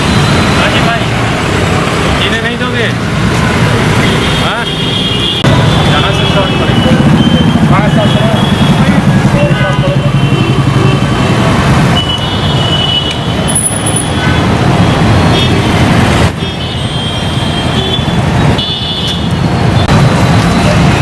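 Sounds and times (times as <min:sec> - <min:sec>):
cars and motorbikes passing: 0:00.0 - 0:21.0.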